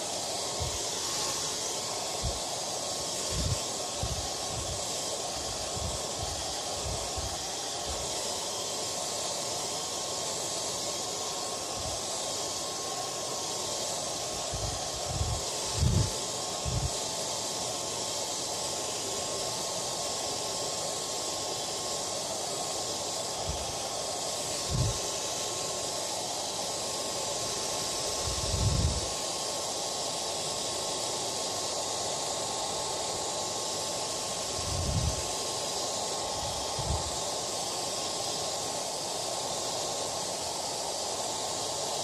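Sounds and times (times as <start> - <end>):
hair dryer running: 0.0 - 42.0.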